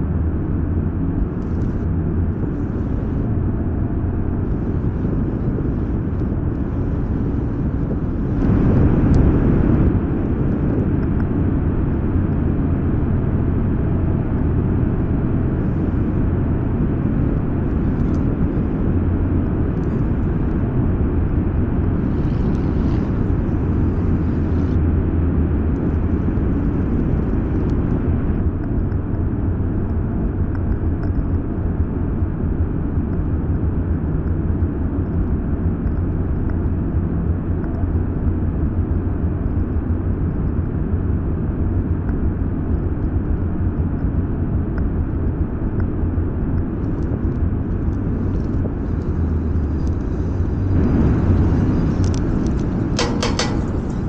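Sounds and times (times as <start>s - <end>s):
road rumble: 0.0s - 32.8s, 42.6s - 54.0s
wind rushing on microphone: 0.0s - 54.0s.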